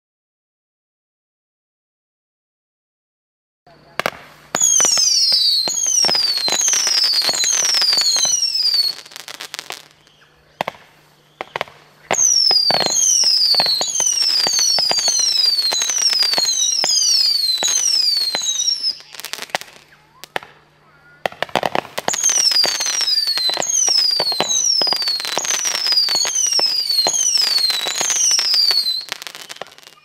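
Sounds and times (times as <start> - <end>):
firework whistles: 3.7 - 30.0
firework pops and crackles: 3.9 - 30.0.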